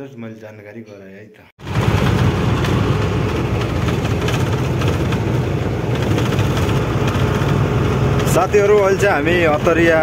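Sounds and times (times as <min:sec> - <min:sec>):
road noise: 0:01.6 - 0:10.0
truck engine droning: 0:01.6 - 0:10.0.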